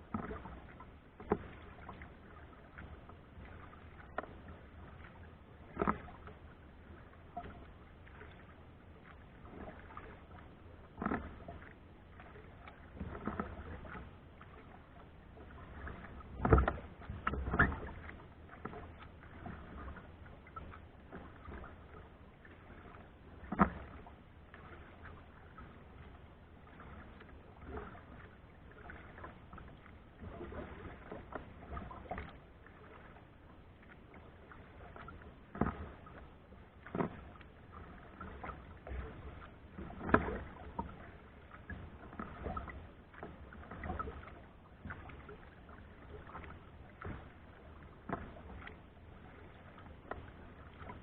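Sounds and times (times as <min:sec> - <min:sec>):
paddle strokes splashing: 0:00.0 - 0:51.0.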